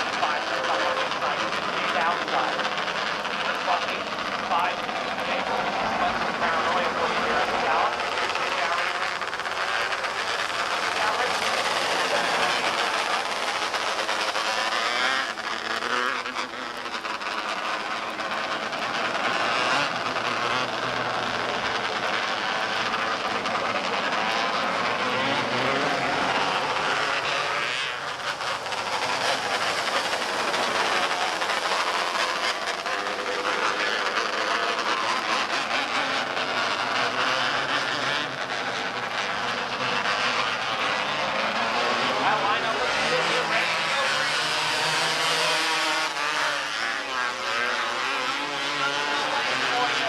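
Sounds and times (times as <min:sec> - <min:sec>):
small race car engines buzzing: 0:00.0 - 0:50.0.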